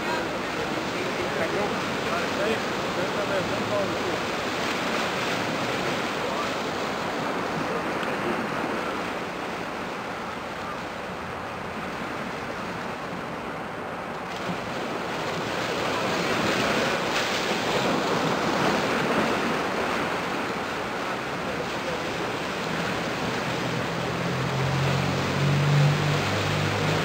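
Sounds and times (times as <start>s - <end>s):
small waves washing on shore: 0.0s - 27.0s.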